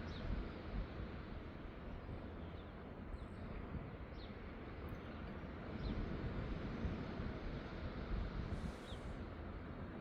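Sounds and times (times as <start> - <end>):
low rumbling seaside noise: 0.3 - 10.0.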